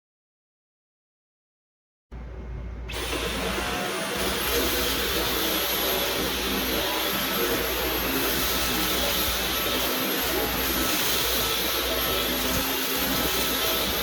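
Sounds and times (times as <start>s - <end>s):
vacuum cleaner running: 2.2s - 14.0s.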